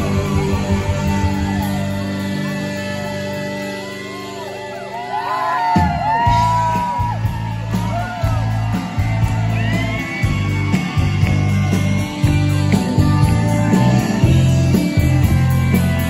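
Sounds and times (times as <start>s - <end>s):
bass line: 0.0s - 5.2s, 5.8s - 16.0s
electric guitar lead: 0.0s - 16.0s.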